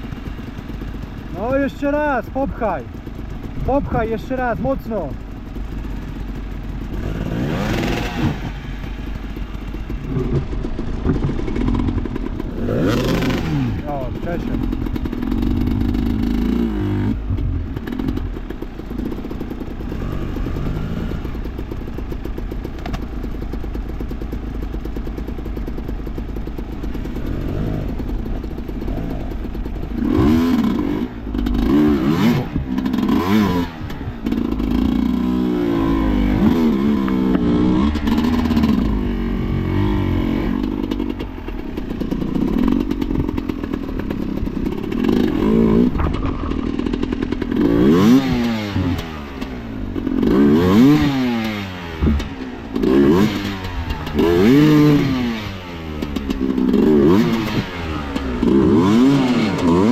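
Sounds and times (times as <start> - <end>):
dirt bike engine revving: 0.0 - 22.6, 24.8 - 59.9.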